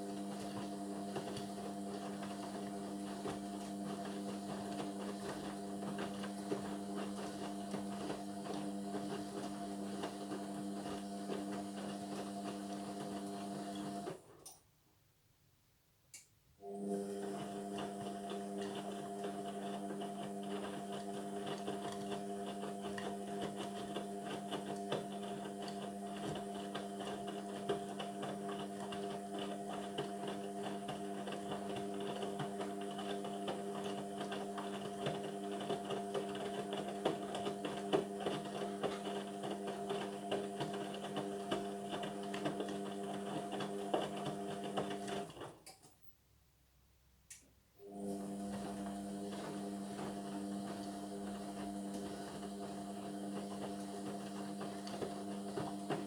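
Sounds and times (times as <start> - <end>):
washing machine humming: 0.0 - 14.3, 16.6 - 45.6, 47.8 - 56.0.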